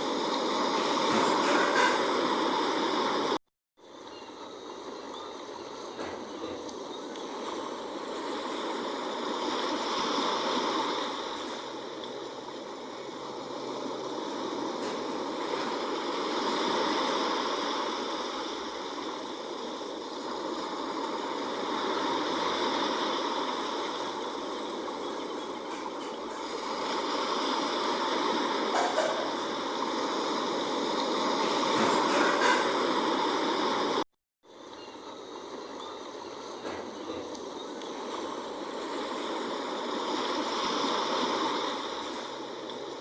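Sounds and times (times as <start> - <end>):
sea waves washing: 0.0 - 43.0.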